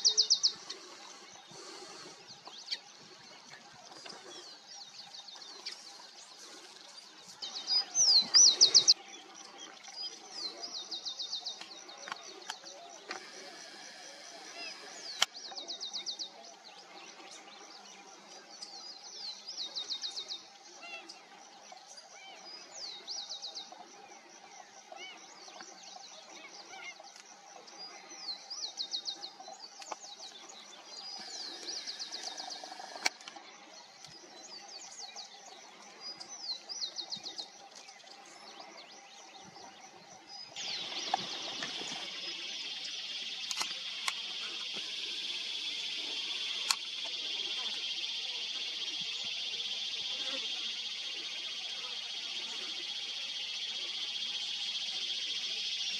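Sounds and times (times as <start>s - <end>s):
loud hissing background: 0.0s - 23.6s, 27.6s - 55.9s.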